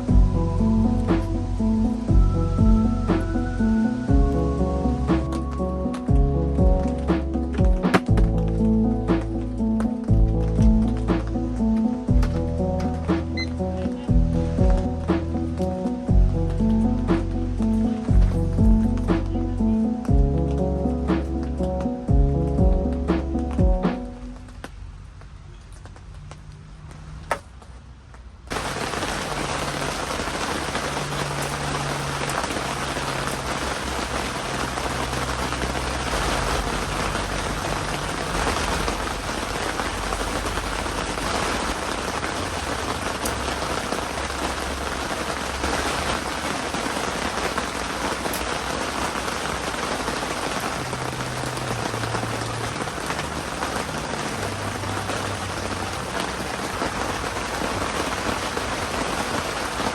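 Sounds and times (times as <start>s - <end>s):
heavy rain falling: 0.0s - 25.3s, 28.5s - 59.9s.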